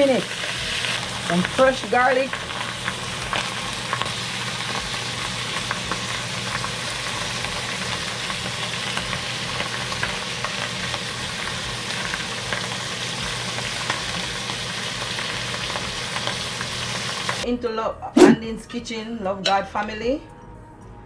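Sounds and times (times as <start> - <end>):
fish sizzling in butter: 0.0 - 17.4.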